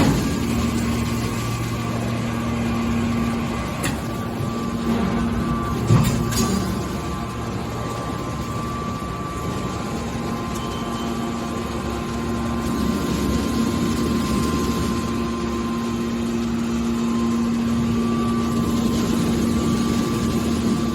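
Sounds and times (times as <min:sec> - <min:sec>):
hydraulic power unit humming: 0:00.0 - 0:20.9.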